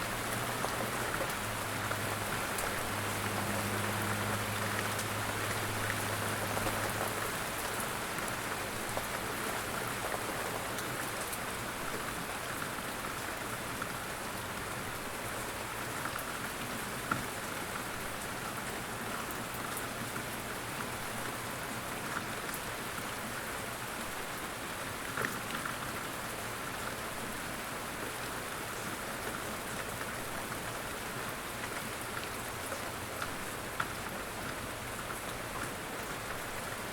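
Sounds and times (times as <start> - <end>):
light rain pattering: 0.0 - 36.9.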